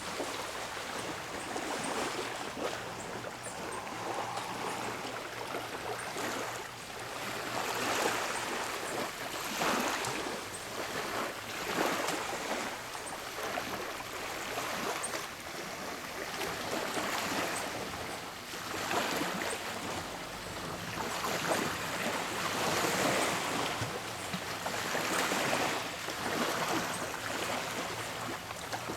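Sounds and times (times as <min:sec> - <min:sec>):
small waves lapping on shore: 0:00.0 - 0:28.9.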